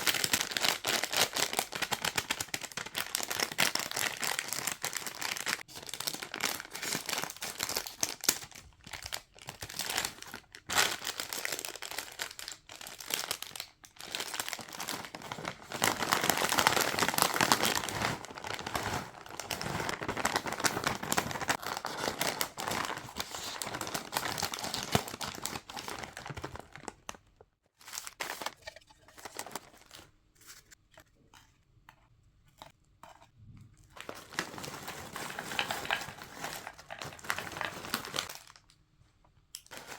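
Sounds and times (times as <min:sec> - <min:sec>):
plastic wrappers crinkling: 0:00.0 - 0:30.8, 0:33.9 - 0:38.8, 0:39.6 - 0:39.9.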